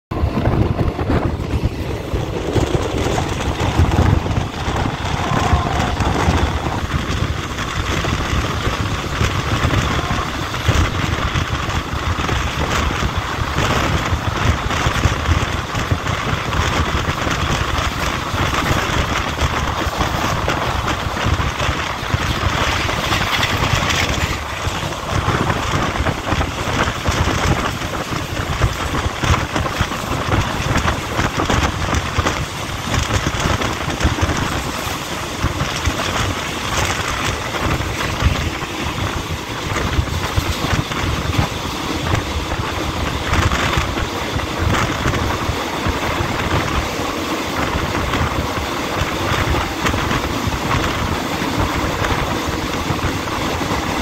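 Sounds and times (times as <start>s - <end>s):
train wheels rumbling on rails: 0.0s - 54.0s
wind buffeting microphone: 0.1s - 54.0s.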